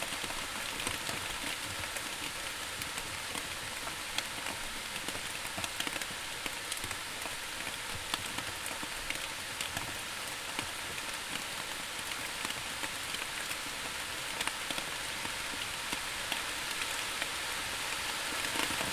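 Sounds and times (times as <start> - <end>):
steady rain falling: 0.0 - 18.9.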